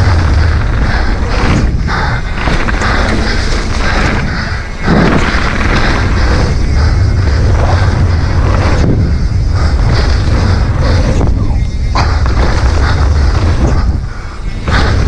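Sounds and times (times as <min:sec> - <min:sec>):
bike tyres on dirt trail: 0:00.0 - 0:15.0
wind on microphone: 0:00.0 - 0:15.0.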